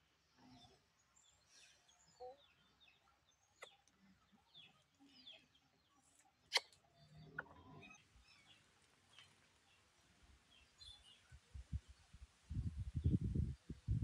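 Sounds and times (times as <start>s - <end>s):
faint bird chirps: 0.4s - 12.2s.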